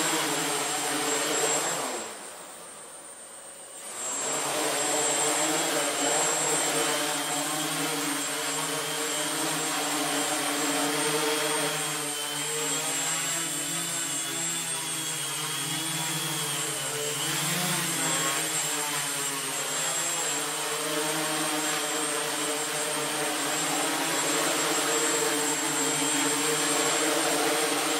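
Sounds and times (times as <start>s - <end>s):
quadcopter propellers whirring: 0.0s - 27.9s.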